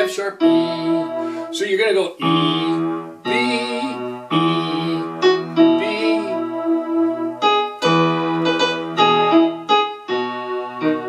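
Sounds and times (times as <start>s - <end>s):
electronic keyboard slow melody: 0.0s - 1.6s, 2.2s - 11.0s.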